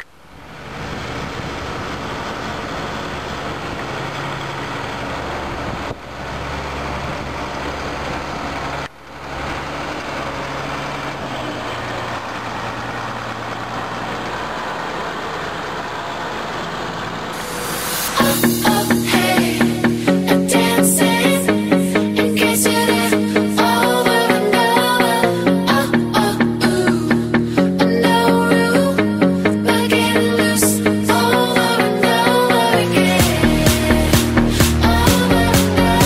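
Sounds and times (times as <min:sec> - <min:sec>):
diesel engine droning: 0:00.0 - 0:36.0
machinery noise: 0:00.0 - 0:36.0.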